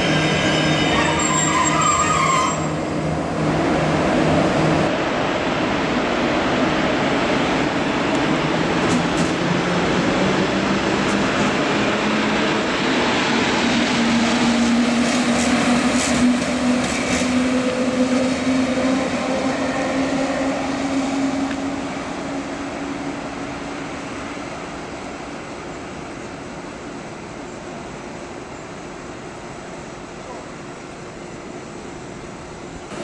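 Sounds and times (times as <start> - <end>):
train rail and wheel noise: 0.0 - 33.0.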